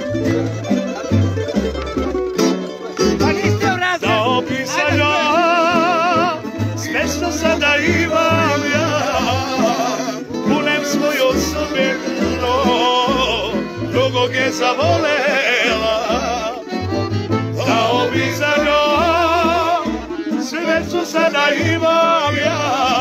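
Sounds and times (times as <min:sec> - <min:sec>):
acoustic guitar: 0:00.0 - 0:23.0
man singing folk song: 0:03.0 - 0:23.0.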